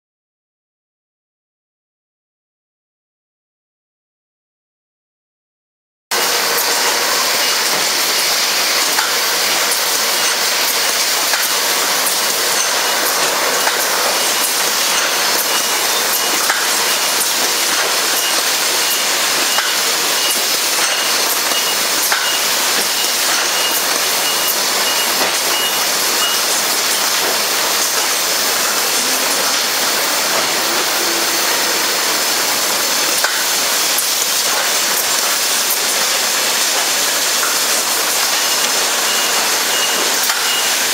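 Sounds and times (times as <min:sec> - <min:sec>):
bottling line machine hissing: 0:06.1 - 0:40.9.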